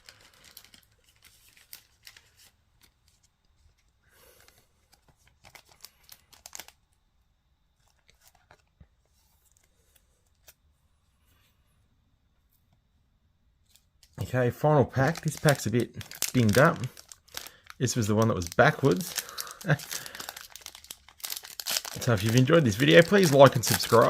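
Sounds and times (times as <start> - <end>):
card wrappers crinkling: 0.0 - 6.9, 7.8 - 10.6, 13.6 - 24.0.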